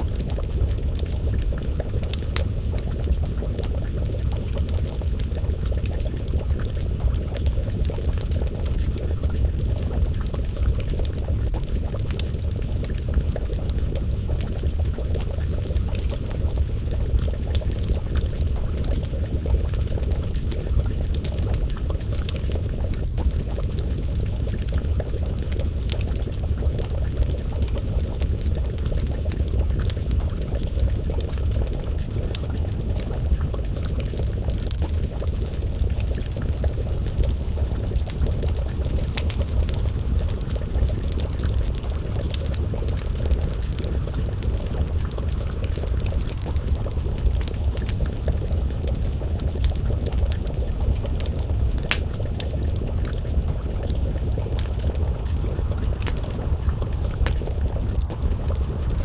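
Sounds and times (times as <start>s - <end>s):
stew bubbling in a pot: 0.0s - 59.0s
wood fire crackling: 0.0s - 59.0s.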